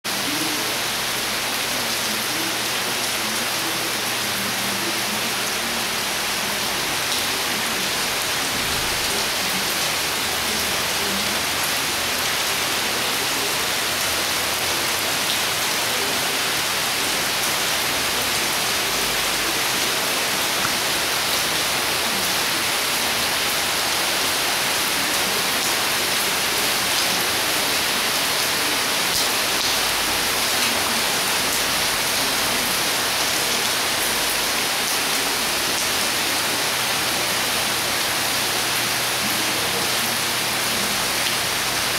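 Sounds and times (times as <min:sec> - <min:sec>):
heavy rain hiss: 0:00.1 - 0:41.9.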